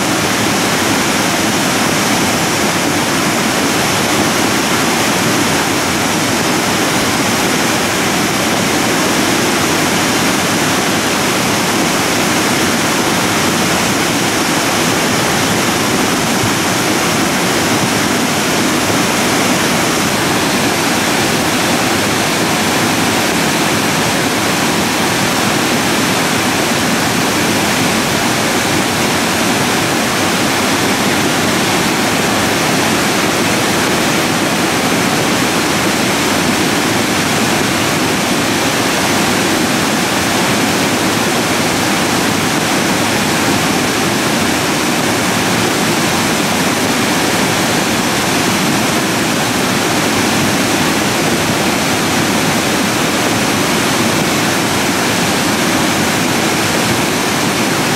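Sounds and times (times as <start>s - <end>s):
muddy water rushing: 0.0s - 57.9s.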